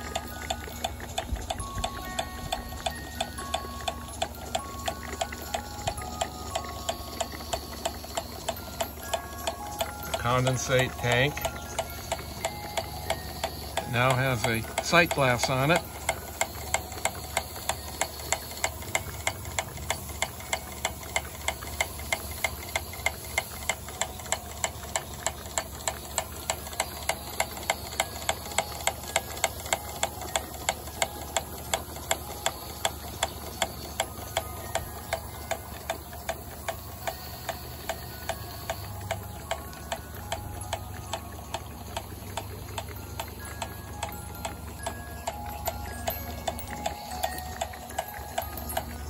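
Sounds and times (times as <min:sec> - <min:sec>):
model steam pump clacking: 0:00.0 - 0:49.0.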